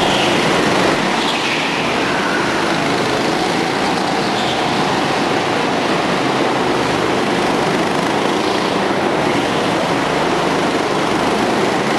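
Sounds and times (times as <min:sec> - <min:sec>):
go-kart engines droning: 0:00.0 - 0:11.9.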